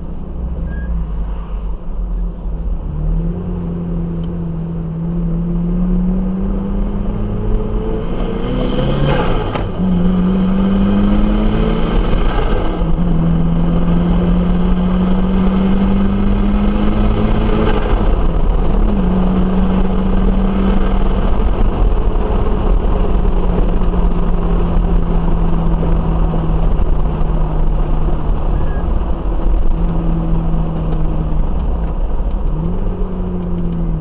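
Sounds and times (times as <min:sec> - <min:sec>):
truck engine accelerating: 0:00.0 - 0:34.0.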